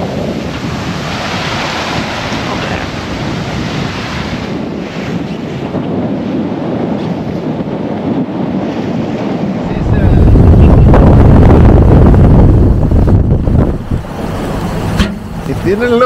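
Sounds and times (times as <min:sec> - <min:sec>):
waves rushing along hull: 0:00.0 - 0:16.0
wind buffeting microphone: 0:00.0 - 0:16.0.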